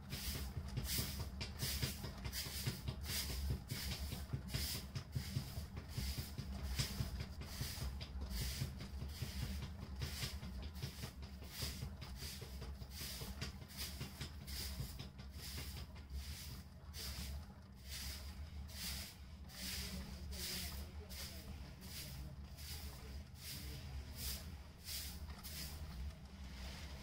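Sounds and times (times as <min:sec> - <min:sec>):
potter's wheel rumble: 0:00.0 - 0:27.0
wet hands swishing on clay: 0:00.1 - 0:27.0.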